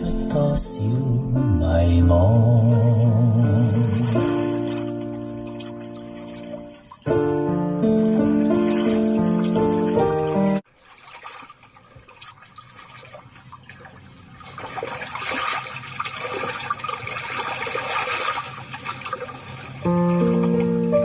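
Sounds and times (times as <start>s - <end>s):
rushing splashing water: 3.4s - 21.0s.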